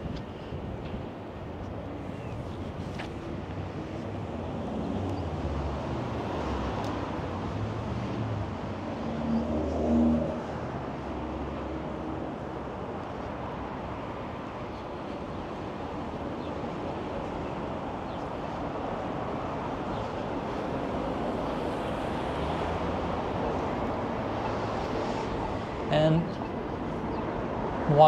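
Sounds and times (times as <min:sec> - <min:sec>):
city traffic noise: 0:00.0 - 0:28.0.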